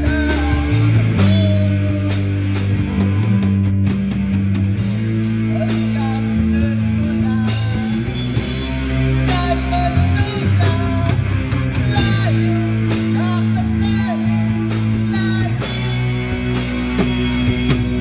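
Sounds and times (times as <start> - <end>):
bass guitar: 0.0 - 18.0
drum kit with cymbals: 0.0 - 18.0
electric guitars: 0.0 - 18.0.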